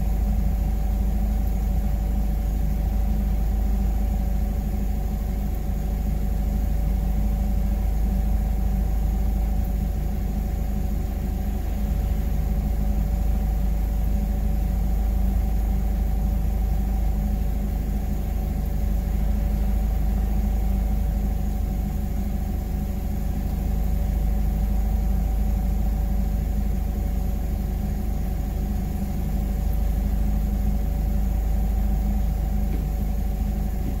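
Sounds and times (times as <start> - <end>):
forklift engine idling: 0.0 - 34.0.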